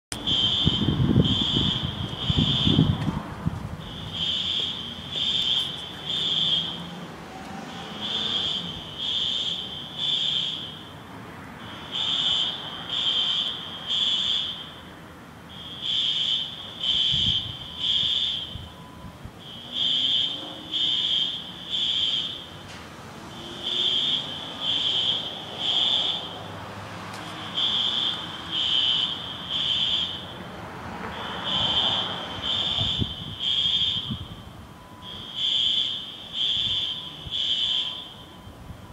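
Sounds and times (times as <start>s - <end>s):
fire alarm horn blasts: 0.1s - 3.0s, 3.8s - 7.0s, 7.6s - 26.6s, 27.2s - 38.9s.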